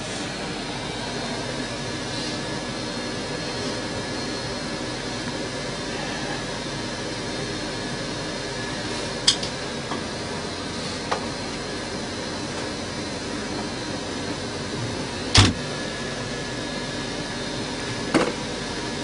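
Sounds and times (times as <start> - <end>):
engine and heater fan hum: 0.0 - 19.0.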